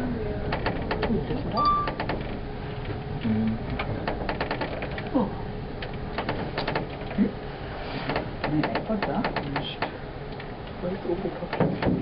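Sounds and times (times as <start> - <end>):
clicking and rattling in cabin: 0.3 - 5.2, 5.8 - 7.2, 8.0 - 12.0.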